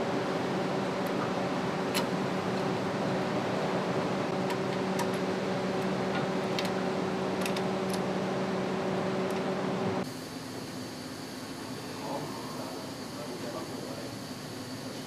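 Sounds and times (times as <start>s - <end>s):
ventilation and machinery hum: 0.0s - 15.0s.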